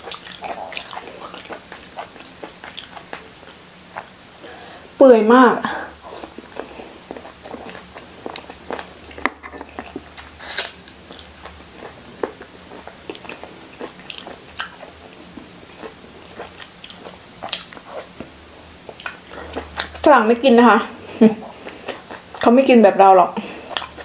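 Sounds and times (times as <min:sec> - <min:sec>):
person chewing and sucking: 0:00.0 - 0:04.4, 0:06.0 - 0:20.0, 0:21.4 - 0:22.5, 0:23.6 - 0:24.0.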